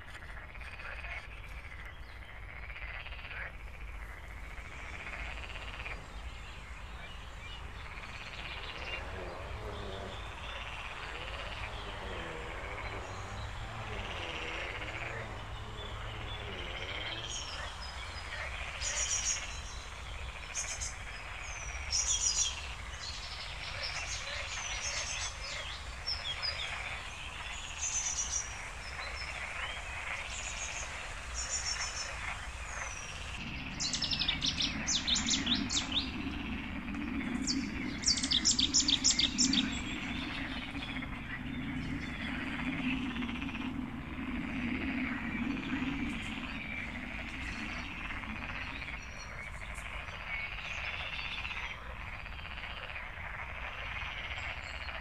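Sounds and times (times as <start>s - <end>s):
birds chirping: 0.0s - 55.0s
frogs chorus: 0.0s - 55.0s
low croaking: 0.0s - 55.0s.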